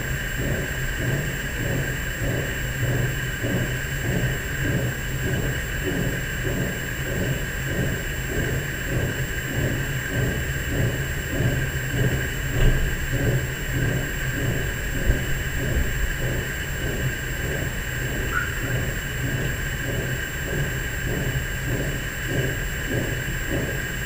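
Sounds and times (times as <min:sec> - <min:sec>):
steady low drone: 0:00.0 - 0:24.0
throbbing pulse: 0:00.0 - 0:24.0.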